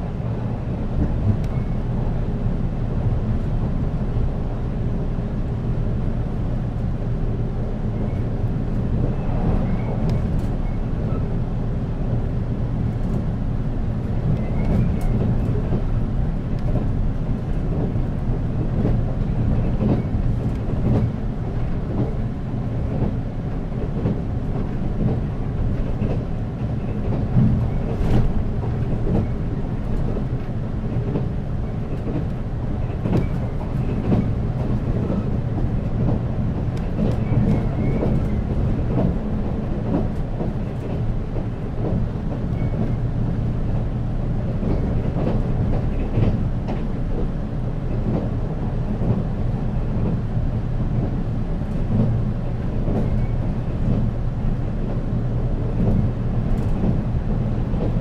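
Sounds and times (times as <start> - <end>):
wheel and track rumble: 0.0 - 58.0.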